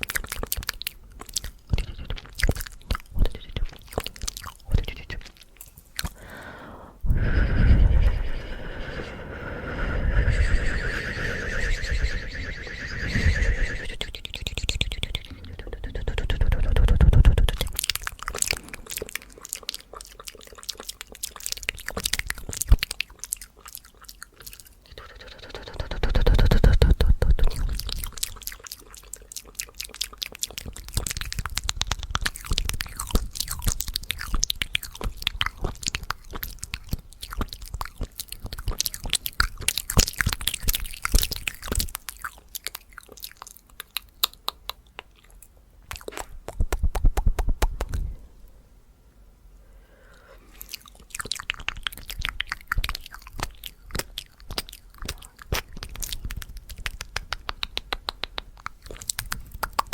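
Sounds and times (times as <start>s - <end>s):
wet mouth clicks and pops: 0.0s - 6.2s, 13.8s - 48.1s, 50.6s - 59.9s.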